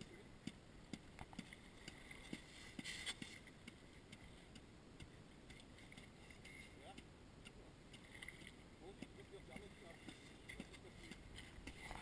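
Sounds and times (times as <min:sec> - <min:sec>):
faint clicks and knocks: 0:00.0 - 0:12.0.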